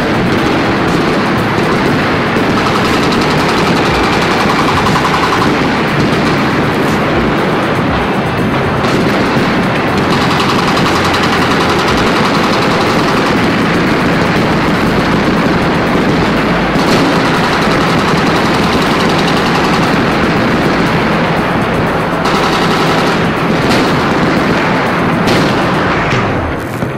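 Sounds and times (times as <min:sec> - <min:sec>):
background music: 0:00.0 - 0:26.9
rapid machine-gun fire: 0:00.0 - 0:26.9.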